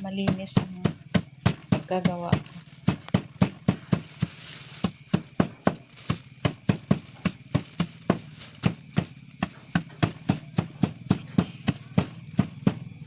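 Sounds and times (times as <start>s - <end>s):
hammer pounding in plastic bag: 0.0s - 13.0s.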